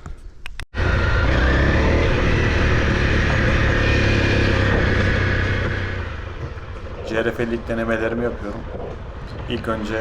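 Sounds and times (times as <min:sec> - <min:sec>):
dirt bike engine running: 0:00.8 - 0:09.5.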